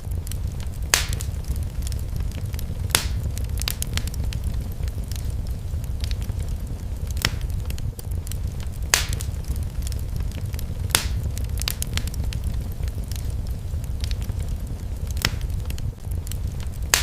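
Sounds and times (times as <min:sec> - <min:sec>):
fire sharp pops: 0:00.0 - 0:17.0
steady low rumble: 0:00.0 - 0:17.0
wood fire crackling: 0:00.0 - 0:17.0.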